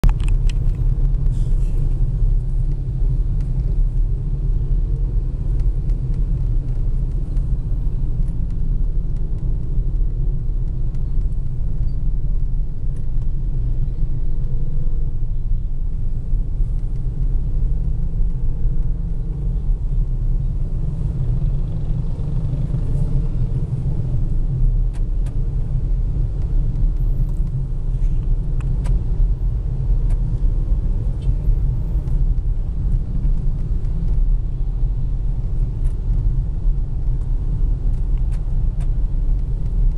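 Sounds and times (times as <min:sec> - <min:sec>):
traffic rumble inside car: 0:00.0 - 0:39.9.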